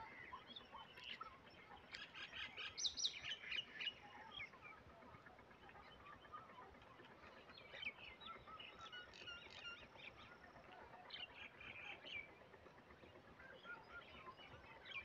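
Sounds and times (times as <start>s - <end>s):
faint chorus of birds chirping: 0.0s - 15.0s.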